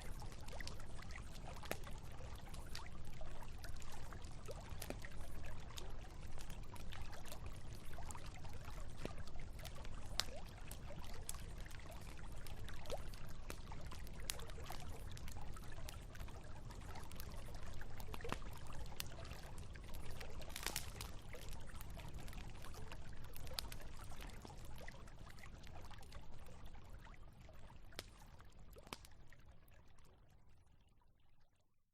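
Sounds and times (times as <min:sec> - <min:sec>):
campfire crackling and popping: 0:00.0 - 0:27.1, 0:27.7 - 0:29.2.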